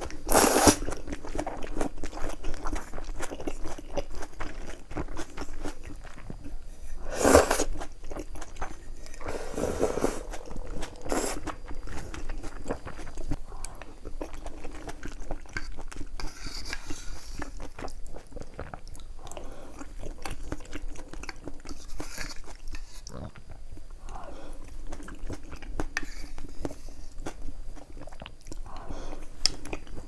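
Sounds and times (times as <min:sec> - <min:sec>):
person chewing crunchy food: 0:00.0 - 0:23.6, 0:24.2 - 0:30.0.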